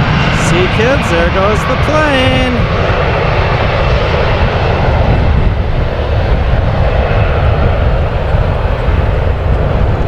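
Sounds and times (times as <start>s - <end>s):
airplane engines roaring: 0.0s - 10.0s.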